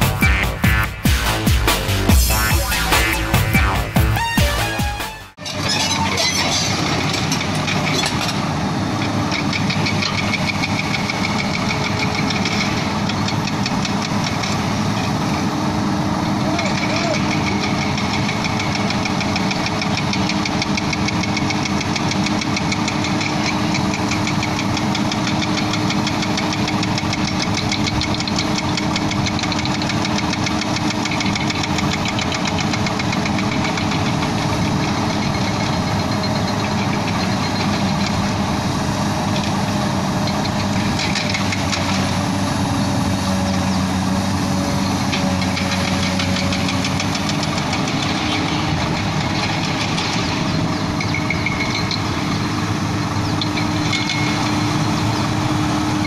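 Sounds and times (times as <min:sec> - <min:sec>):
excavator diesel engine running: 0:00.0 - 0:56.0
truck diesel idling: 0:00.0 - 0:56.0.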